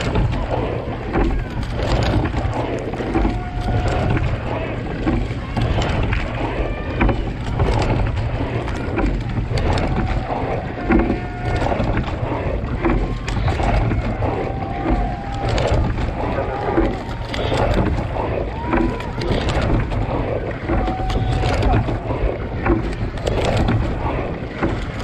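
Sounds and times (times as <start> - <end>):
oars splashing water: 0.0 - 25.0
wind rumble on microphone: 0.0 - 25.0.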